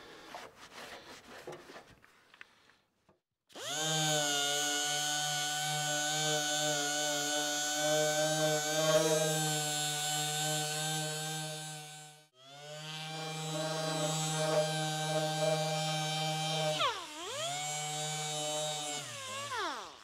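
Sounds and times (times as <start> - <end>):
air-powered orbital sander running: 3.6 - 20.0.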